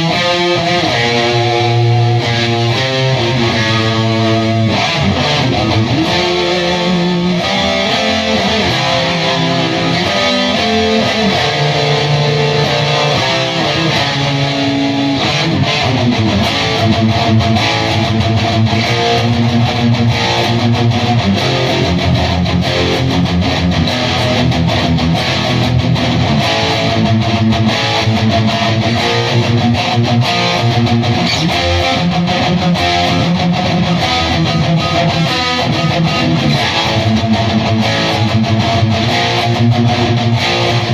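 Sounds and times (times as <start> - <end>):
electric guitar riffing: 0.0 - 40.9.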